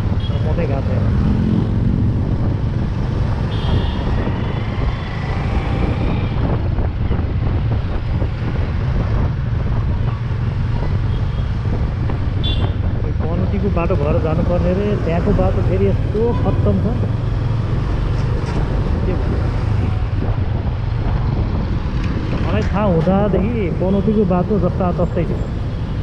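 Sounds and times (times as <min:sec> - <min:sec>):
vehicle rumbling on rough road: 0:00.0 - 0:26.0
wind buffeting microphone: 0:01.0 - 0:23.9.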